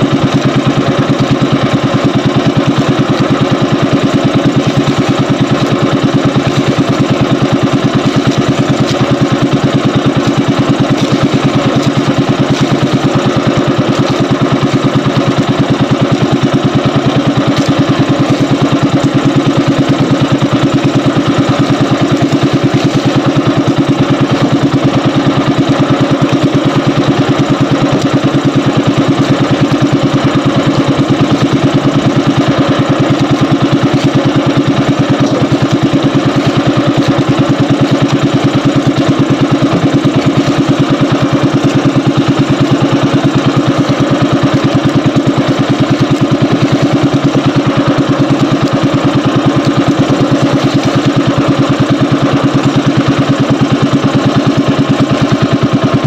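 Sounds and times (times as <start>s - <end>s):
small boat engine running: 0.0s - 56.0s.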